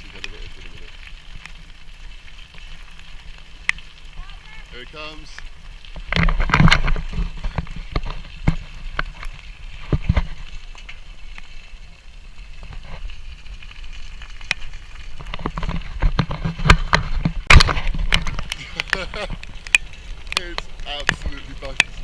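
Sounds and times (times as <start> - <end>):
raindrops hitting camera: 0.0 - 22.0
wind rumbling on microphone: 0.0 - 22.0.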